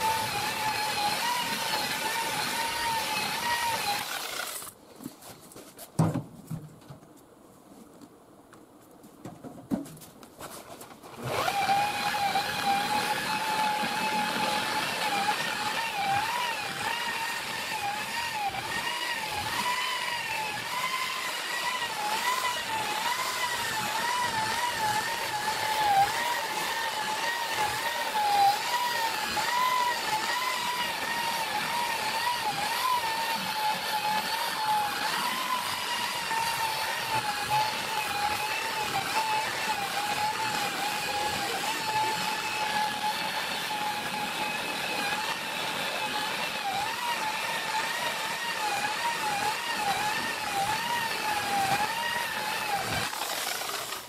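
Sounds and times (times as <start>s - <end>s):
rotary polisher whining: 0.0s - 4.7s, 11.2s - 54.0s.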